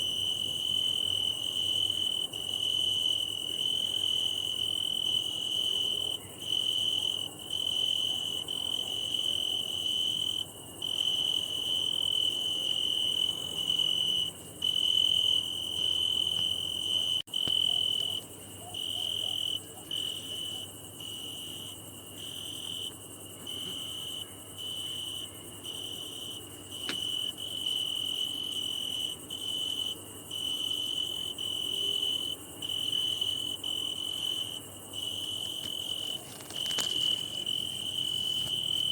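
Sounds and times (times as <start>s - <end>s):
cricket trilling: 0.0s - 38.9s
faint background crickets: 0.0s - 38.9s.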